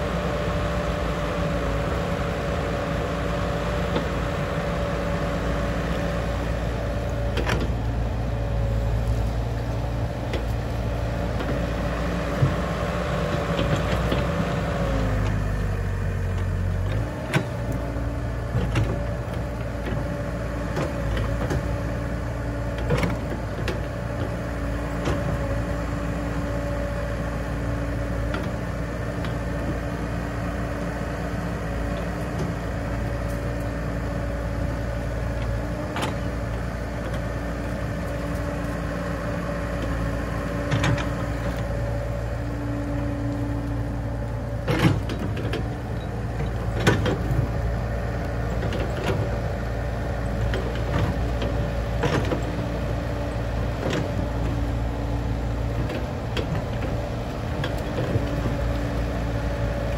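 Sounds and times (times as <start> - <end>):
excavator diesel engine whining: 0.0 - 59.9.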